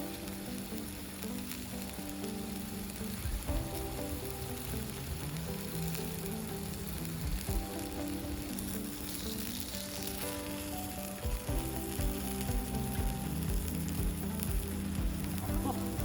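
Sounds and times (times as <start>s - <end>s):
meat sizzling on hot plate: 0.0s - 16.0s
soft background music: 0.0s - 16.0s.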